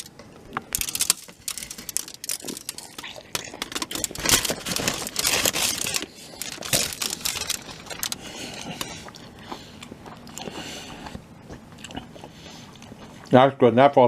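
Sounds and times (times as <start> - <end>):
food wrapping crinkling: 0.0 - 13.2.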